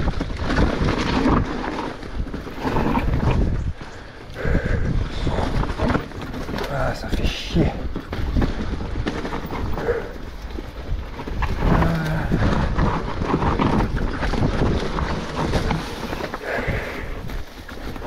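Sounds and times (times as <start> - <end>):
bike rattling and knocking: 0.0 - 18.0
tyres crunching over leaves and rocks: 0.0 - 18.0.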